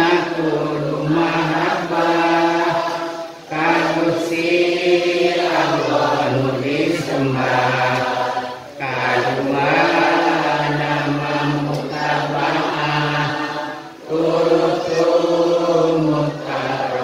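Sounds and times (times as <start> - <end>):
person chanting devotional verse: 0.0 - 17.0.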